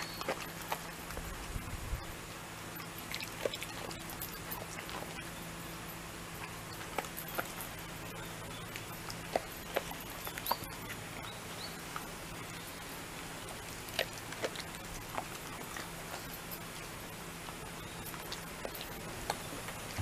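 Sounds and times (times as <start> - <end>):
dog nibbling leaves on wooden deck: 0.0 - 20.0.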